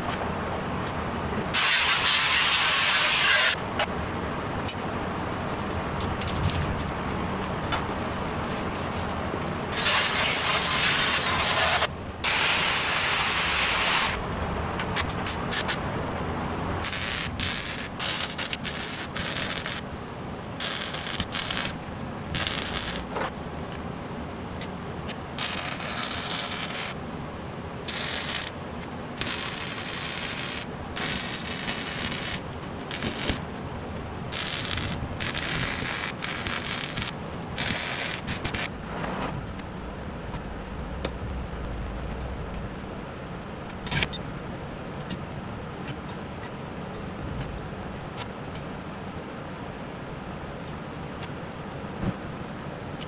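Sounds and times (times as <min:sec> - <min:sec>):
arc welding crackling: 0:00.0 - 0:48.2.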